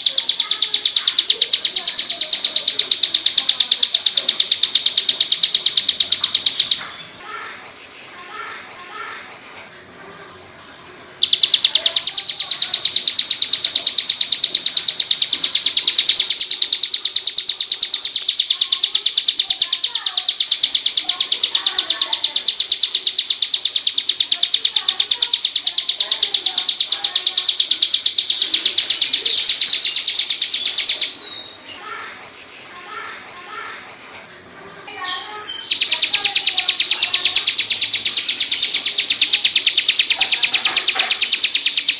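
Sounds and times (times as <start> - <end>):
bird trilling: 0.0 - 7.1, 11.2 - 31.7, 35.2 - 41.9.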